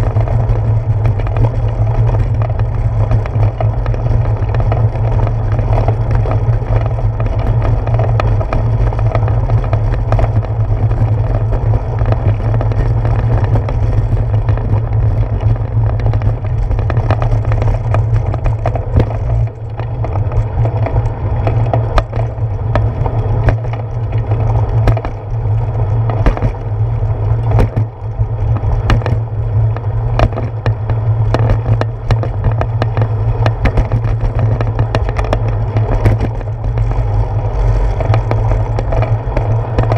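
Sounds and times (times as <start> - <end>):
bicycle clicks and rattles: 0.0 - 39.9
bicycle rumbling over pavement: 0.0 - 39.9.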